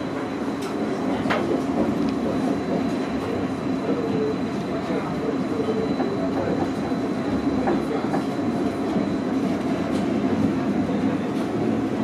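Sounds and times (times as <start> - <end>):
tram wheels rumbling on rail: 0.0 - 12.0.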